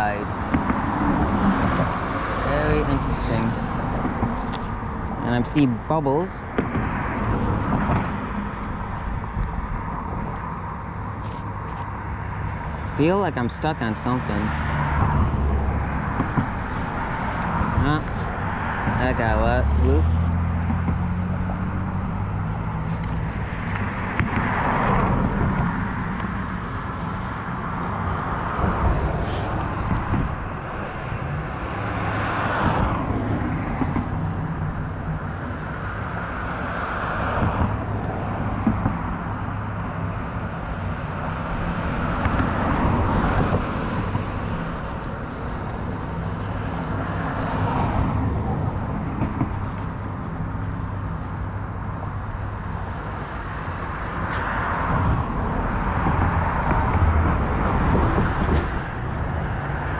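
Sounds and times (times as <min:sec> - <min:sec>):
low engine hum: 0:00.0 - 0:59.9
vehicles passing: 0:00.0 - 0:59.9.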